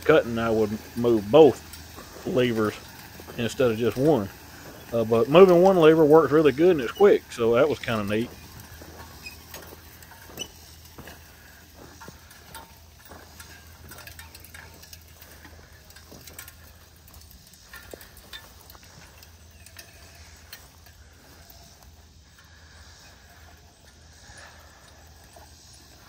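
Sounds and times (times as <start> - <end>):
harrow discs and harness rattling: 0.0 - 26.0.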